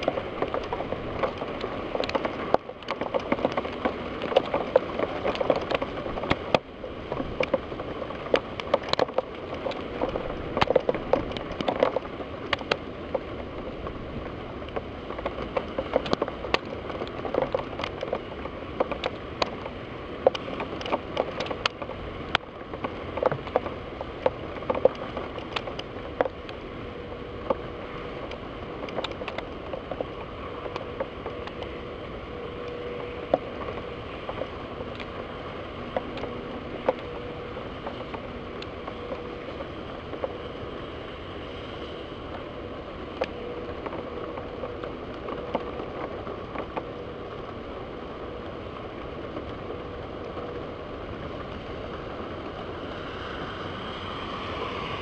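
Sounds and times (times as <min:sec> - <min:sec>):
raindrops hitting a window: 0:00.0 - 0:55.0
steady hiss of rainfall: 0:00.0 - 0:55.0.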